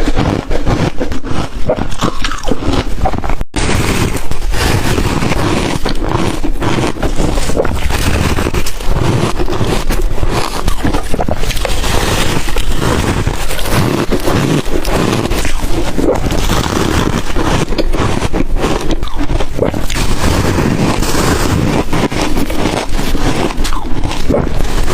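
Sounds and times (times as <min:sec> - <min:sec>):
ice being crunched by chewing: 0:00.0 - 0:24.9.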